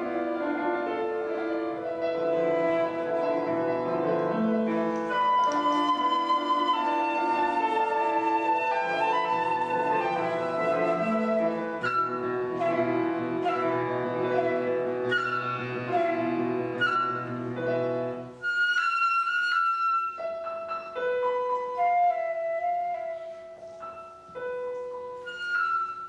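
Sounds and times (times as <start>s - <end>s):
flute melody: 0.0s - 26.0s
piano accompaniment: 0.0s - 26.0s.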